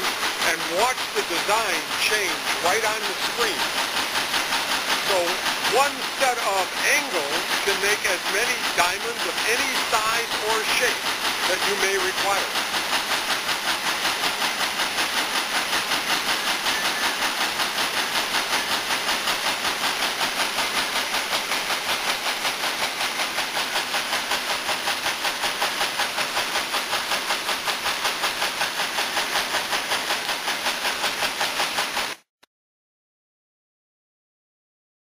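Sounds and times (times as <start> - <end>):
quilting machine rhythmic clatter: 0.0 - 32.3.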